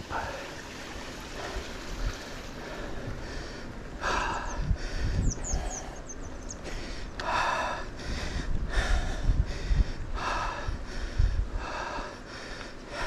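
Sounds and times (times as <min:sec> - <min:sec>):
person breathing hard: 0:01.4 - 0:13.0.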